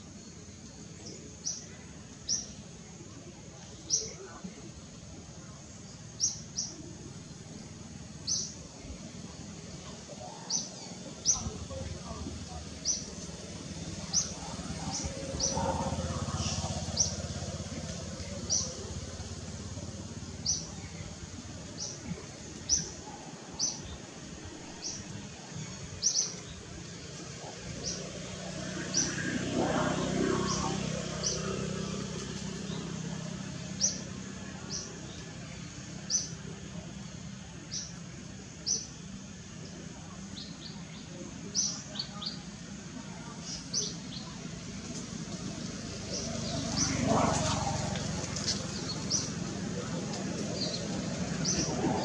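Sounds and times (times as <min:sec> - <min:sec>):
broad noise: 0:00.0 - 0:52.0.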